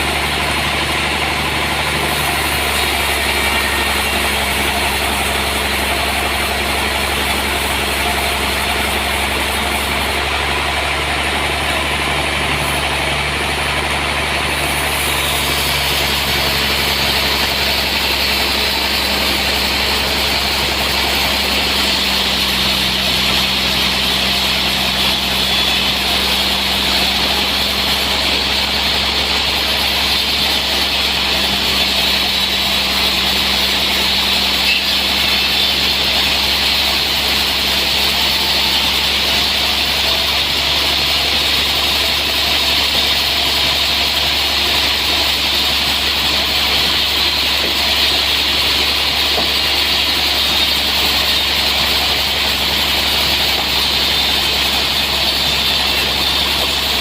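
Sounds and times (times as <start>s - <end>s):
high machinery hiss: 0.0s - 57.0s.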